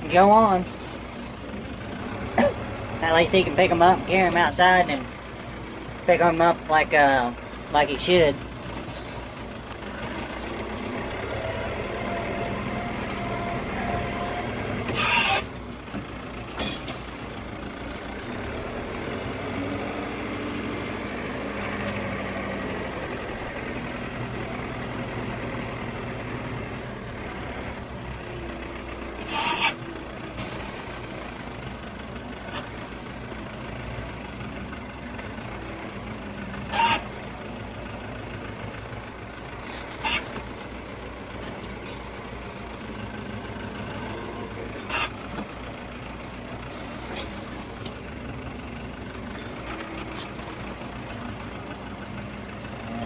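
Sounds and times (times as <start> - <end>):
diesel tractor engine running: 0.0 - 53.0
loader hydraulic whine: 0.0 - 53.0.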